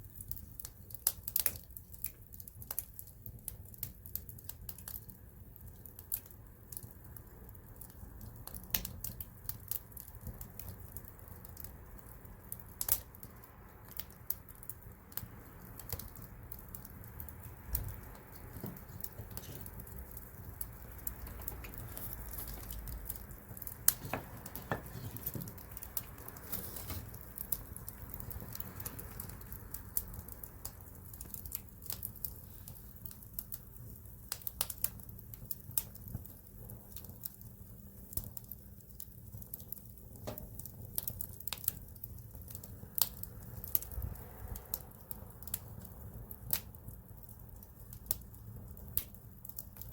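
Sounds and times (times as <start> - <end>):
wood crackling and popping: 0.0 - 49.9.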